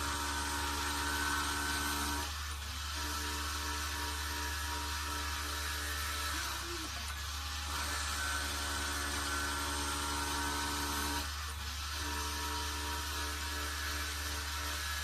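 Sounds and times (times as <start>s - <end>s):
motor whine: 0.0s - 15.0s.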